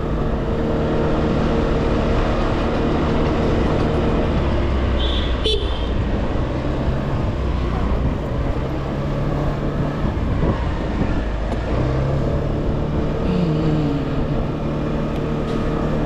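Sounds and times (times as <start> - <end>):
road and wind rumble: 0.0 - 16.0.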